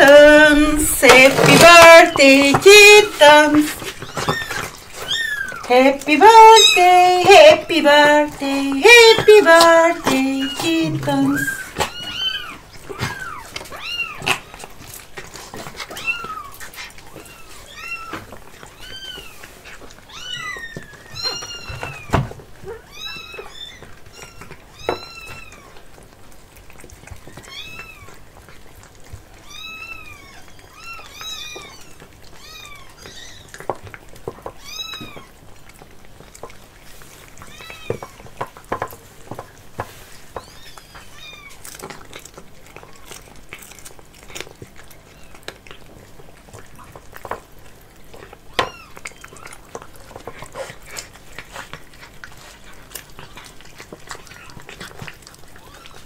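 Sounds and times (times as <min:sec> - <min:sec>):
cats meowing: 0:00.0 - 0:26.1, 0:26.7 - 0:39.6, 0:40.2 - 0:56.0
cats eating from a tray: 0:00.0 - 0:56.0.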